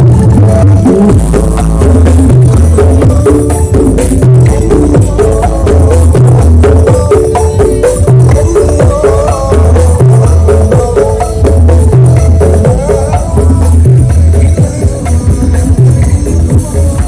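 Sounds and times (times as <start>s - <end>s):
melody line: 0.0s - 16.6s
deep pulsing bass: 0.0s - 17.0s
loud dance remix: 0.0s - 17.0s
percussion: 0.0s - 17.0s.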